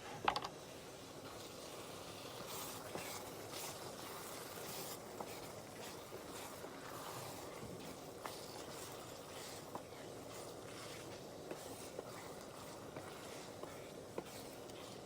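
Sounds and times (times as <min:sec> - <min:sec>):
curry simmering in a pan: 0:00.6 - 0:15.0.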